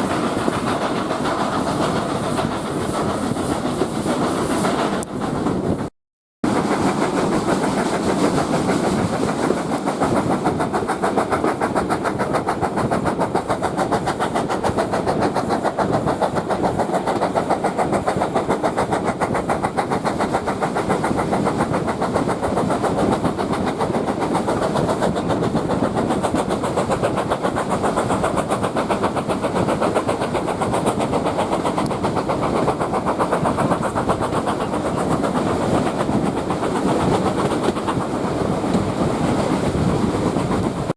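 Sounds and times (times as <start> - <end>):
train rumbling on tracks: 0.0 - 40.9.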